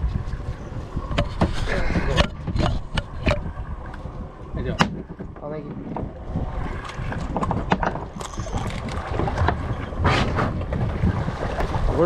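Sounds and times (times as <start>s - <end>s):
low rumble of wind and water: 0.0s - 12.0s
knocks and clatter on boat deck: 1.0s - 12.0s.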